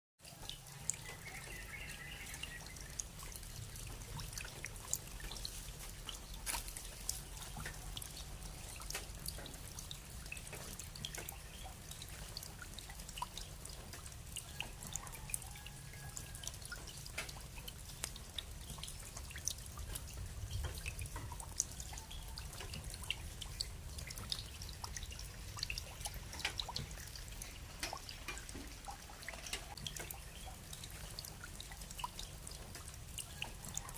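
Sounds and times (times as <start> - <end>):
rain falling: 0.2 - 33.9
raindrops ticking: 0.2 - 33.9.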